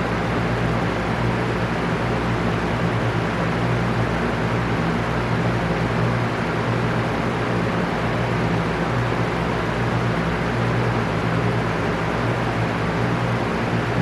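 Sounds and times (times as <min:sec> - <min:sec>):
fan motor hum: 0:00.0 - 0:14.0
rush of fan air: 0:00.0 - 0:14.0.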